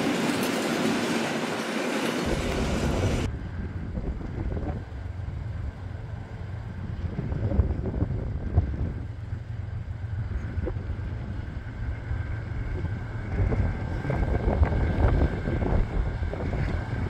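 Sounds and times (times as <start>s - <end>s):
freight train running: 0.0s - 17.0s
wind buffeting microphone: 2.2s - 17.0s.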